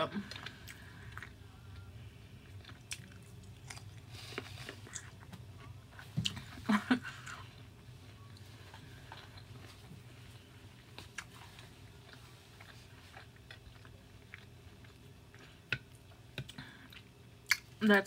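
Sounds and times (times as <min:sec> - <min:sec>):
close-miked chewing: 0:00.2 - 0:06.4, 0:08.2 - 0:17.7.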